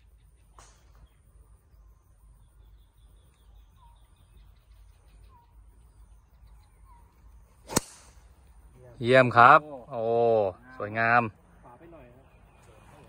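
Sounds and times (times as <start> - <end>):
bird chirping faintly: 0.0 - 13.0.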